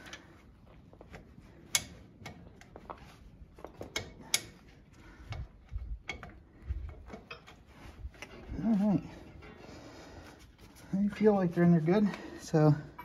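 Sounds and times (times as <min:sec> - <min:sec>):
metallic clicks of hose couplers: 0:00.0 - 0:10.9.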